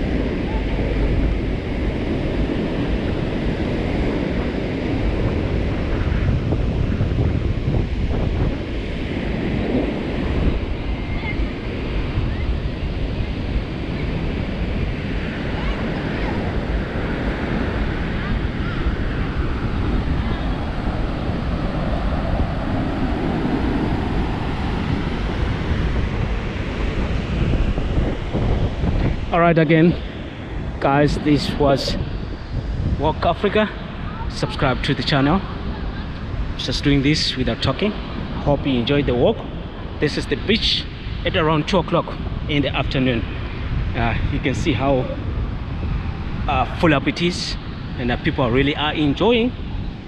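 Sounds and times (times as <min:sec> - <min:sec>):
ocean surf breaking: 0:00.0 - 0:50.0
wind buffeting microphone: 0:00.0 - 0:50.0.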